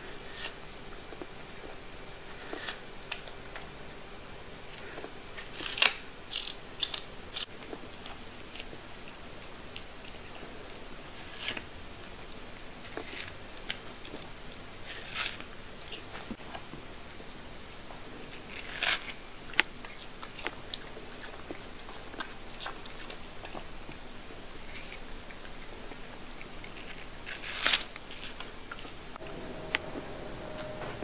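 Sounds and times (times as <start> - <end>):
cat chewing watermelon: 0.0 - 4.0, 4.6 - 30.0
steady background hiss: 0.0 - 31.0.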